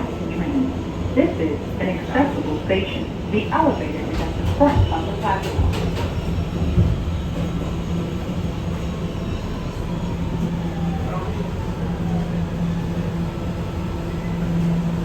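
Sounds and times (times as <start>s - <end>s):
subway car equipment humming: 0.0s - 15.0s.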